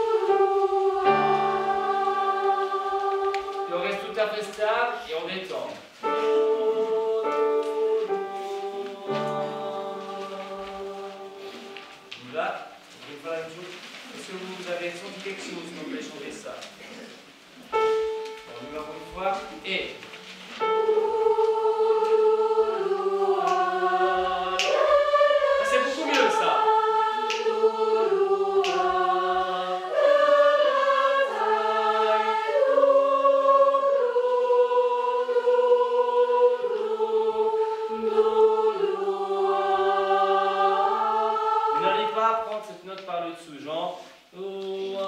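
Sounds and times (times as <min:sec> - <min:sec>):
mixed choir singing: 0:00.0 - 0:05.0, 0:06.0 - 0:12.3, 0:17.7 - 0:42.6.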